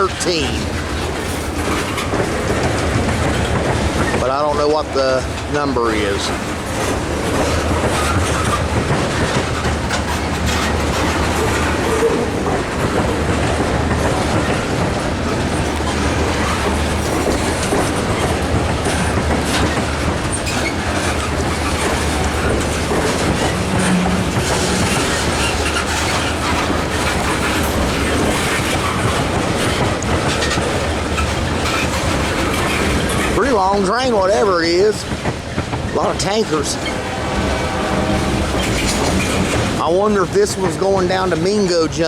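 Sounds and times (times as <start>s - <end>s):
train wheels clacking over joints: 0.0s - 42.0s.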